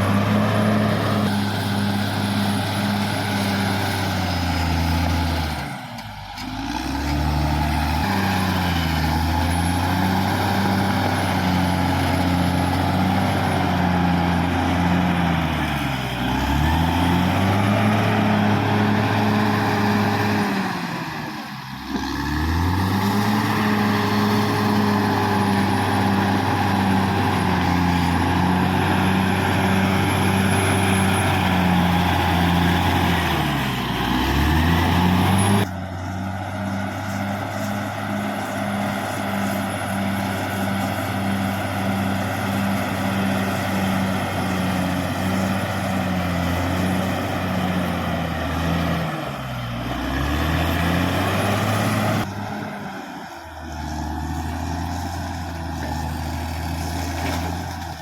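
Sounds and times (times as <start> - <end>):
bulldozer diesel engine running hard: 0.0 - 58.0.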